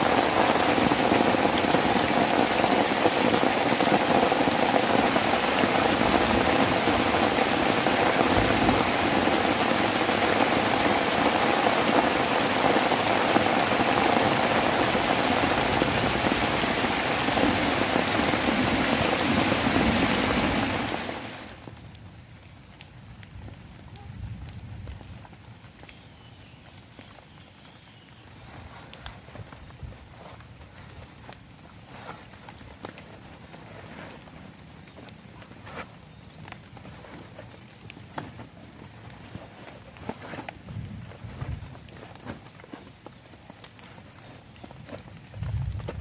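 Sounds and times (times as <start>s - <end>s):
heavy rain on a plastic tarp: 0.0s - 46.0s.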